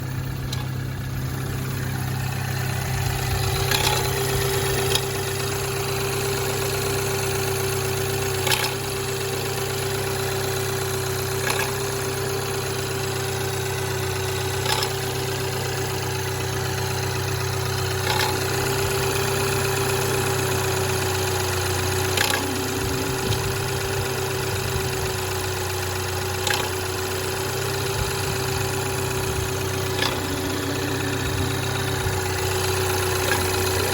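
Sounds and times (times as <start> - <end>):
car engine idling: 0.0 - 33.9
steady engine whine: 0.0 - 33.9
engine clicking knock: 0.2 - 9.1, 9.8 - 12.2, 14.1 - 15.9, 17.9 - 33.9.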